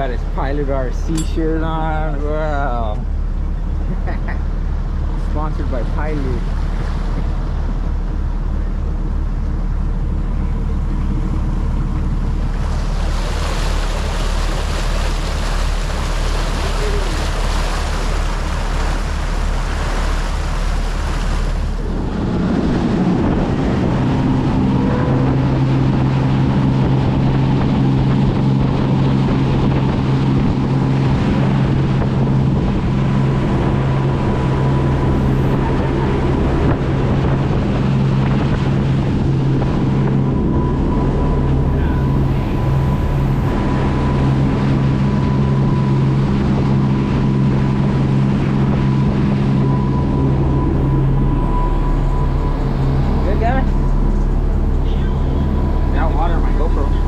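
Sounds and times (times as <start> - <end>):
motorboat engine throbbing: 0.0 - 57.0
water rushing: 0.0 - 57.0
wind buffeting microphone: 4.6 - 57.0.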